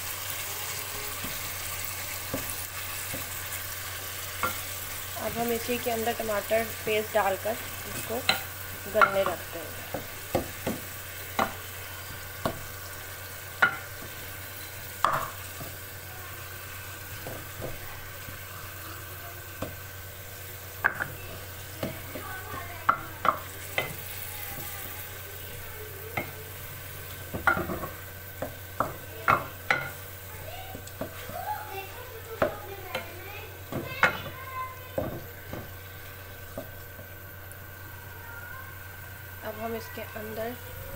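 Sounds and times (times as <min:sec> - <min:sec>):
meat sizzling in oil: 0:00.0 - 0:40.7.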